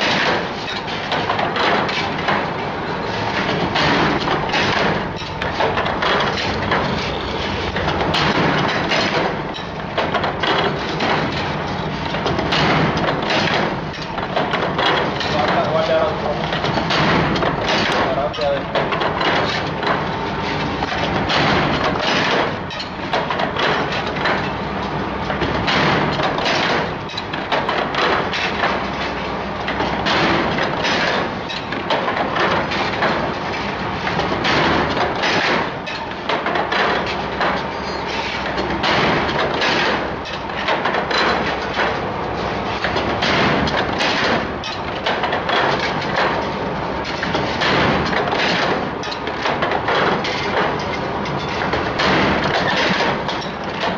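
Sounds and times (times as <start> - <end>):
machine metallic clatter: 0.0 - 53.9.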